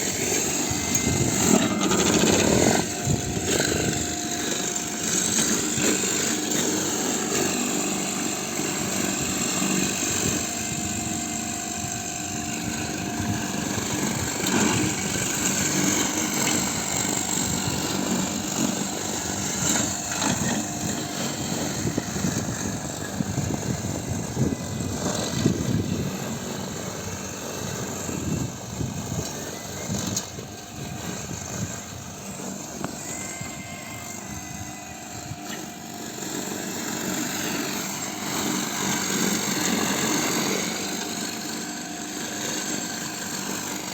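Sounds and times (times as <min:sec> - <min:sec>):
lawn mower running: 0:00.0 - 0:43.9.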